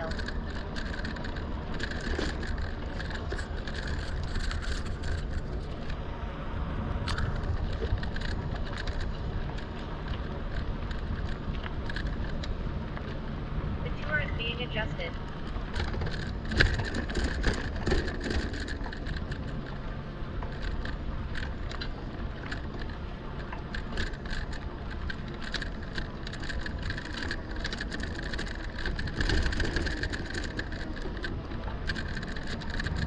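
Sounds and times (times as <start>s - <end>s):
bike rattles and clicks: 0.0s - 33.0s
steady high whine: 0.0s - 33.0s
tyre and wind rumble: 0.0s - 33.0s.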